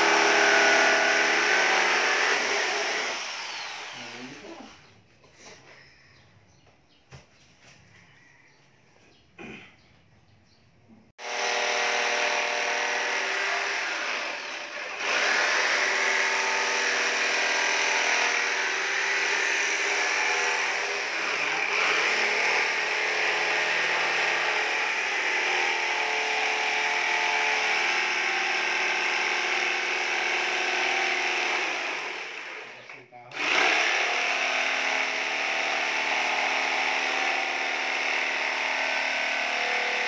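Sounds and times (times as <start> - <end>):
electric jigsaw cutting wood: 0.0 - 4.8, 11.2 - 40.0.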